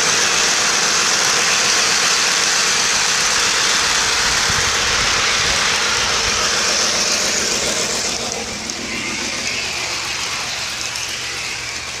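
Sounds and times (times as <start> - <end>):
model airplane motor whirring: 0.0 - 12.0.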